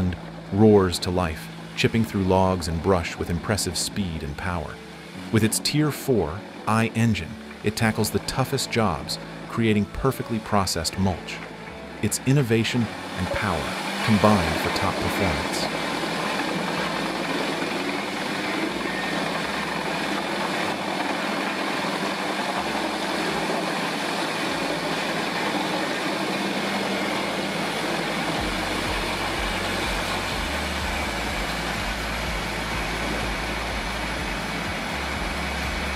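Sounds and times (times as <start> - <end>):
grinder engine grinding wood: 6.8 - 35.9.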